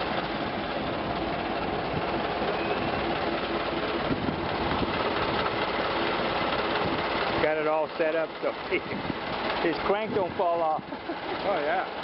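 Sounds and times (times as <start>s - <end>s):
car engine chugging: 0.0s - 12.0s.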